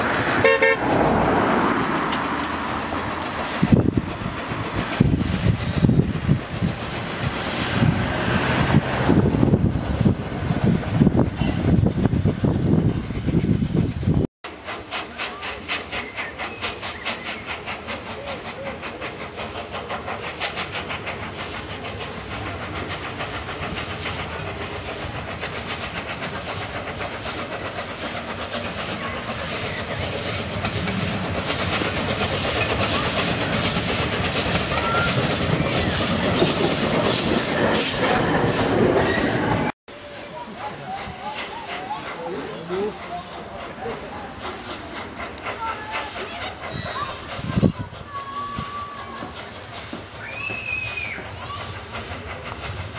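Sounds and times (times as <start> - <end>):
steam locomotive exhaust chuffs: 0.0 - 52.9
steam hissing from cylinders: 1.4 - 52.9.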